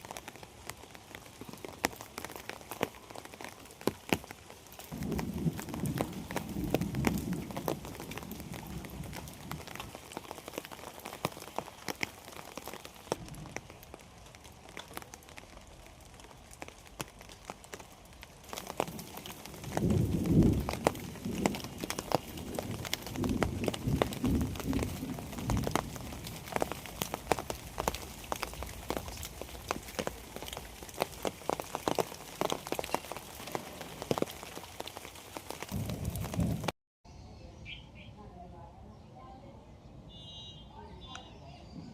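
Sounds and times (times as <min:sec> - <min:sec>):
raindrops ticking: 0:00.0 - 0:36.7
rain hissing: 0:00.0 - 0:36.8.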